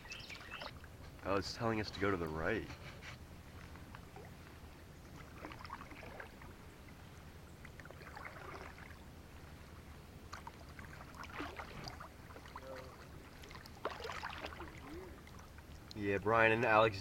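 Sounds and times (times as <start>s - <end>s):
paddle strokes splashing in water: 0.0s - 1.2s, 2.6s - 16.0s.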